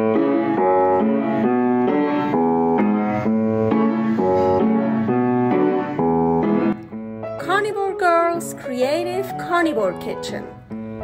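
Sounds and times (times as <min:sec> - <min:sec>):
keyboard playing chords: 0:00.0 - 0:11.0.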